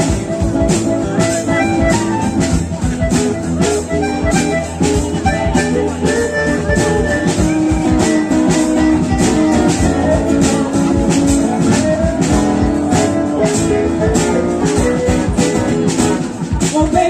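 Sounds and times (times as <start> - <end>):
live band music led by guitar: 0.0 - 17.0.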